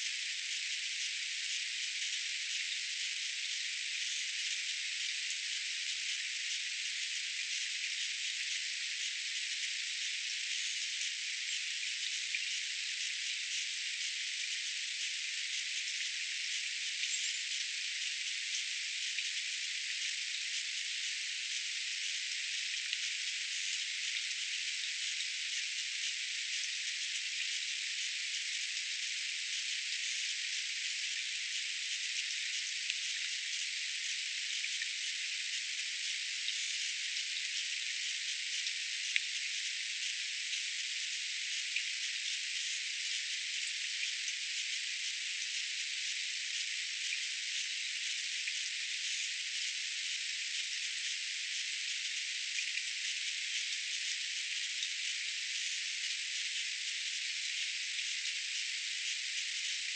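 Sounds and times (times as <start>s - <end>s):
water trickling into bird bath: 0.0s - 59.9s.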